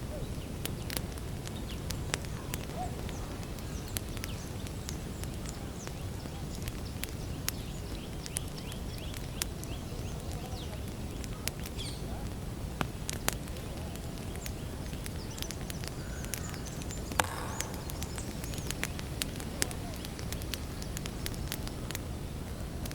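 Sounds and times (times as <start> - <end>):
campfire pops and snaps: 0.0 - 22.9
low fire rumble: 0.0 - 22.9.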